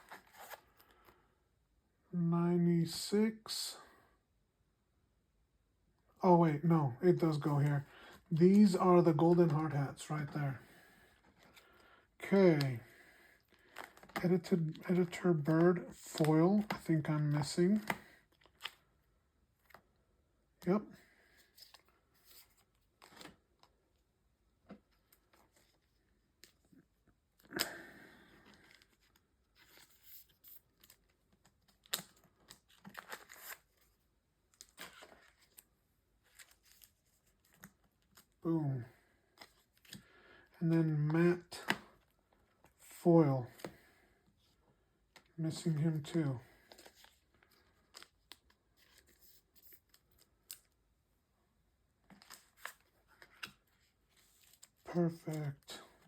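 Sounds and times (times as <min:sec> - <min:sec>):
cards rustling in plastic pages: 0:00.0 - 0:01.2, 0:07.1 - 0:19.9, 0:21.3 - 0:38.4, 0:39.2 - 0:40.6, 0:41.2 - 0:50.9, 0:52.0 - 0:56.0.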